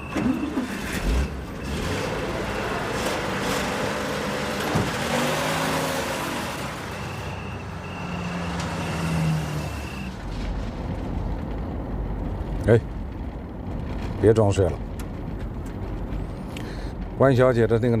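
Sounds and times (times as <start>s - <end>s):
car engine driving off: 0.0s - 17.4s.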